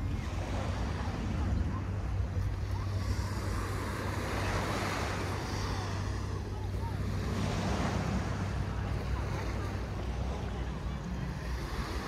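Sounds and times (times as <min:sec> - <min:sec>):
distant surf: 0:00.0 - 0:12.0
faint voices: 0:00.0 - 0:12.0
wind buffeting microphone: 0:00.0 - 0:12.0.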